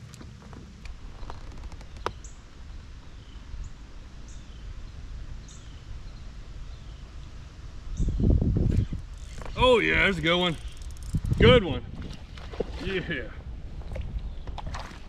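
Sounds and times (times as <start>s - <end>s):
steady low rumble: 0.0s - 12.4s.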